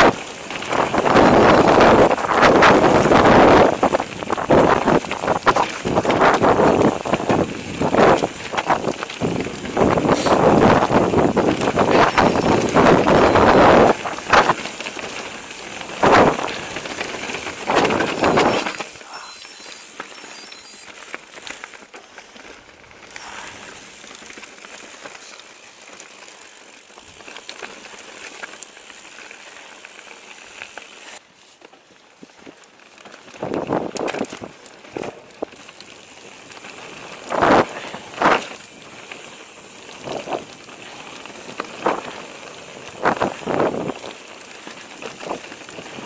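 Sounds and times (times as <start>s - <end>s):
bike chain and frame rattling: 0.0s - 46.0s
bike tyres on dirt and stones: 0.0s - 46.0s.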